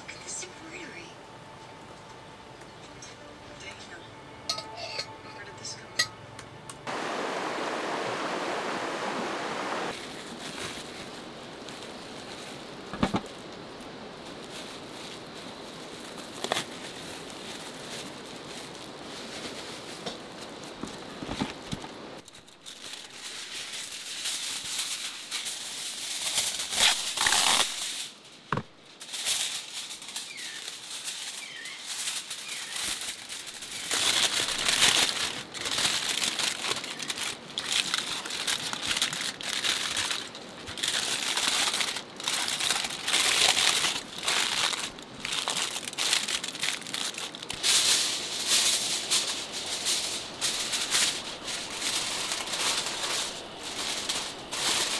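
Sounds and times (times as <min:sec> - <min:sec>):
rain and running water: 0:06.8 - 0:31.1, 0:31.9 - 0:54.9
aluminium foil crumpling: 0:09.9 - 0:54.9
food rustling and crinkling: 0:09.9 - 0:54.9.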